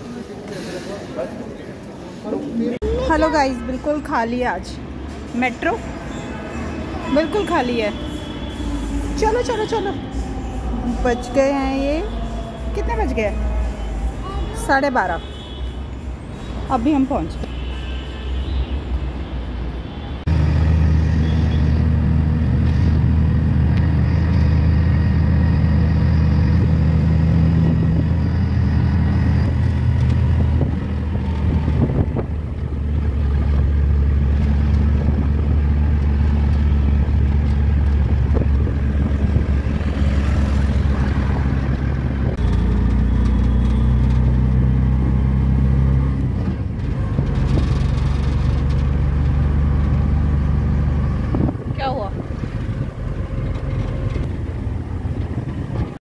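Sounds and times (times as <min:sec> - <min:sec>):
auto-rickshaw engine droning: 0:02.3 - 0:18.7, 0:19.4 - 0:56.0.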